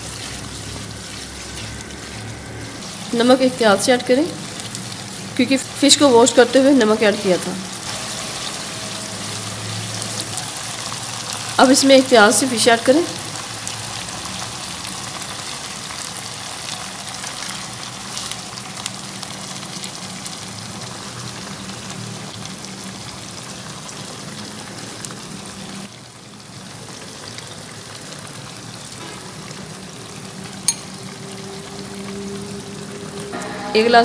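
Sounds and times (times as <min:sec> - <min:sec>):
sauce sizzling in a wok: 0:00.0 - 0:34.0.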